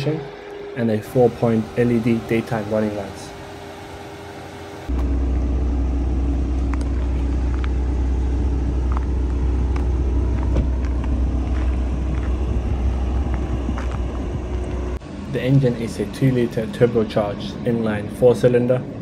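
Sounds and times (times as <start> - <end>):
car engine idling: 0.0 - 17.3.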